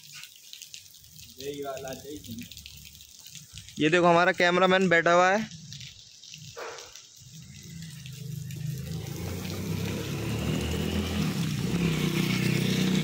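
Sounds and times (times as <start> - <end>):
rain falling steadily: 0.0 - 13.0.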